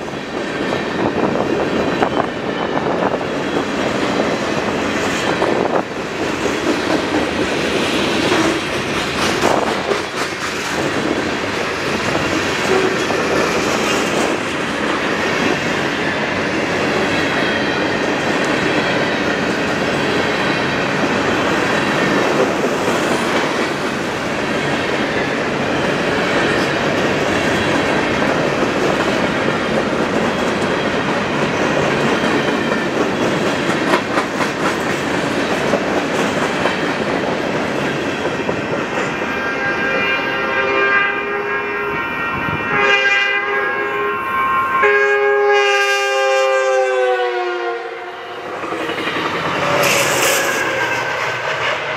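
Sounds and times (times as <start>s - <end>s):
train wheels clattering over rails: 0.0s - 39.4s, 48.5s - 51.9s.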